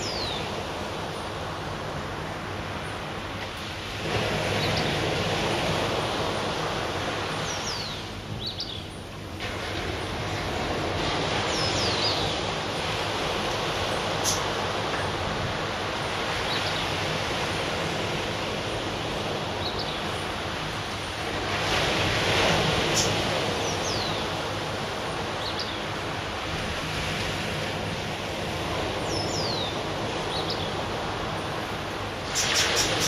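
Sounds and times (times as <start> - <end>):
waves breaking on beach: 0.0 - 33.0.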